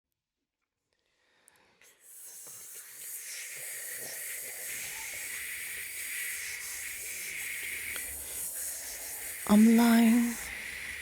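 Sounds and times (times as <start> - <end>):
steady hissing: 2.0 - 11.0.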